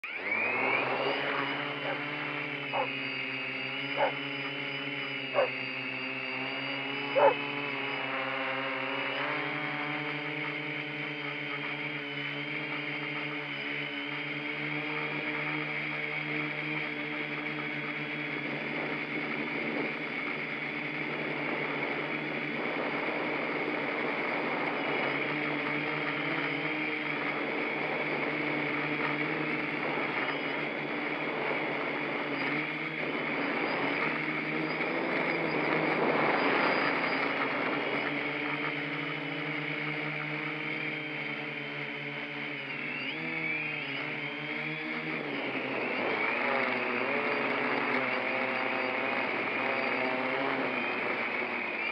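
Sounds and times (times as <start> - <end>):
drone propellers whirring: 0.0 - 51.9.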